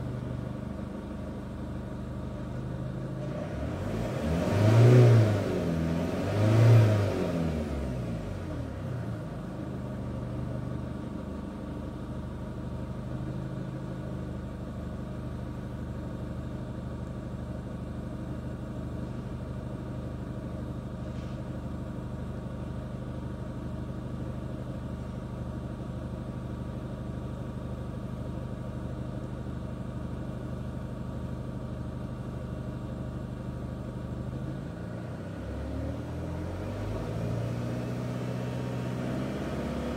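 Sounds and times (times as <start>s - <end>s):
diesel engine revving and idling: 0.0s - 39.9s.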